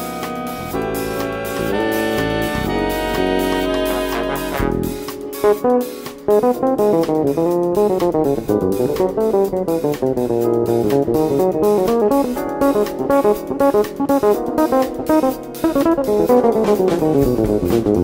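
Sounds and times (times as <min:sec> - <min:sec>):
electric bass solo: 0:00.0 - 0:18.0.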